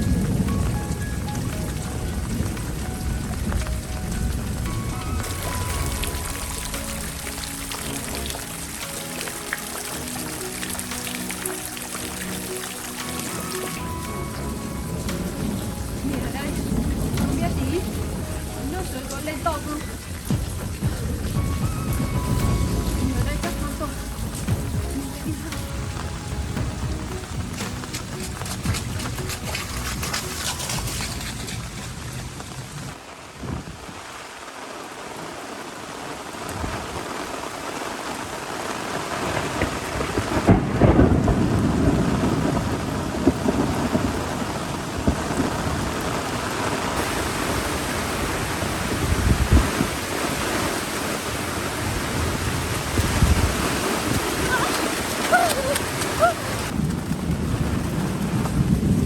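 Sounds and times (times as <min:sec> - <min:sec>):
thunder rumbling: 0:00.0 - 0:34.2, 0:36.4 - 0:59.0
heavy rain falling: 0:00.0 - 0:59.0.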